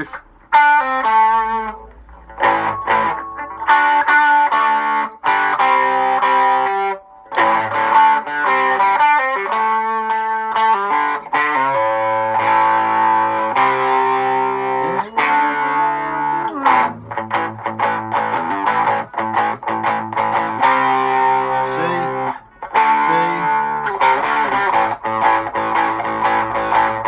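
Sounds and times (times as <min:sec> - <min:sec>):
electric guitar rock riff: 0:00.0 - 0:27.0.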